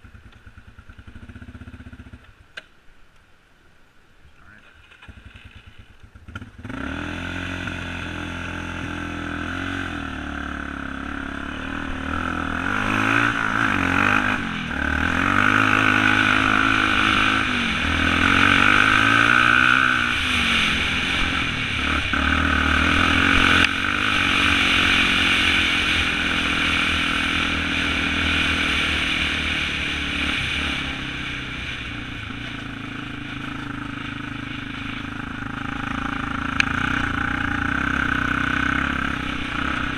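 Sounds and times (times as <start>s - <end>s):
quad engine revving: 4.9s - 39.9s.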